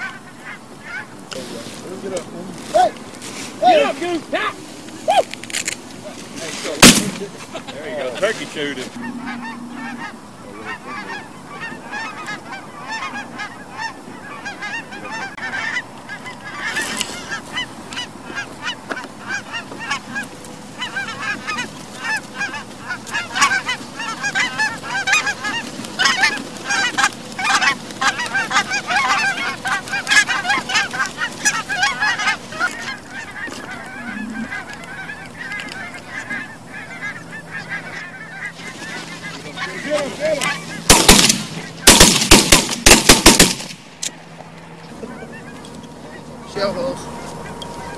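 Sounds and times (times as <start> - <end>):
geese honking: 0.0 - 47.9.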